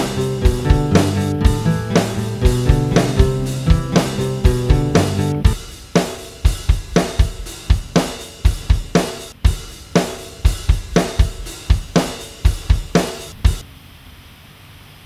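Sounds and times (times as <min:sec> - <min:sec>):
drum kit playing steady beat: 0:00.0 - 0:13.6.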